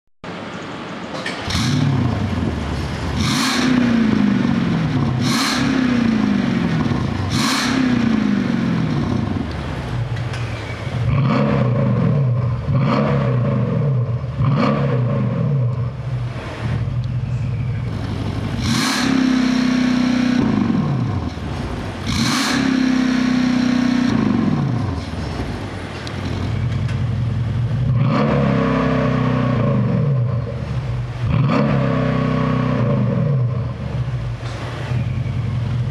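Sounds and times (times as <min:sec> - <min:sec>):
car engine revving: 0:01.4 - 0:35.9.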